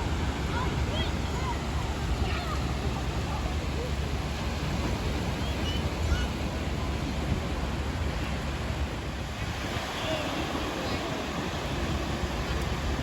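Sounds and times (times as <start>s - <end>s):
ocean surf washing: 0.0s - 13.0s
wind rumbling on microphone: 0.0s - 13.0s.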